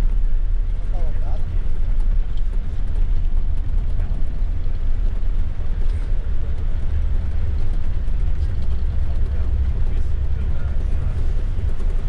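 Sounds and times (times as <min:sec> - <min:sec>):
coach engine rumble inside cabin: 0:00.0 - 0:12.0.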